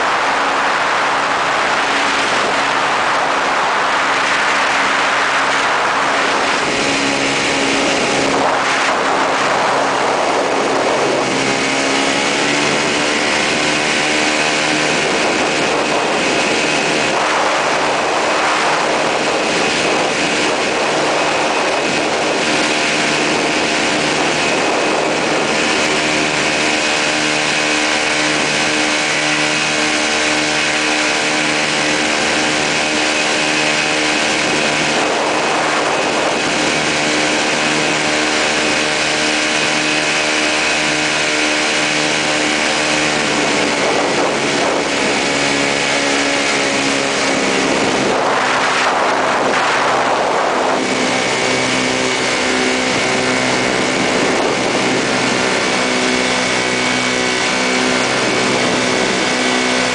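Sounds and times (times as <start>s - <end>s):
ultralight aircraft engine: 0.0s - 59.9s
wind on microphone: 0.0s - 59.9s.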